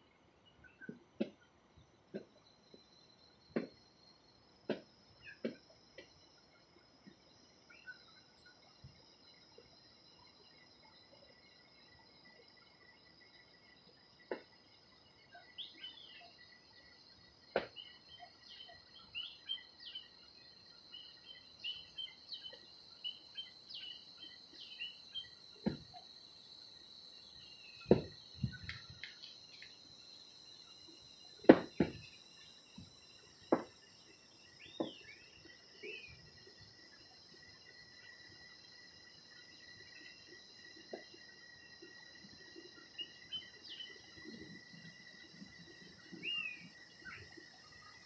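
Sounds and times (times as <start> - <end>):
insect drone: 0.0 - 48.0.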